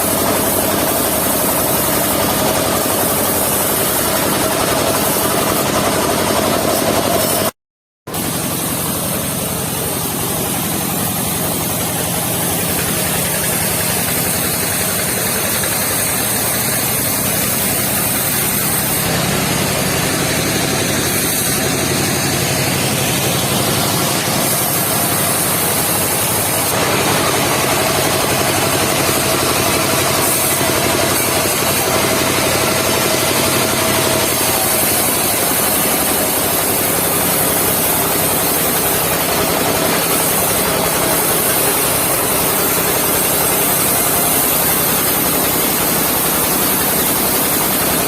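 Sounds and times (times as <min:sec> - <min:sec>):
sawmill engine running: 0:00.0 - 0:48.0.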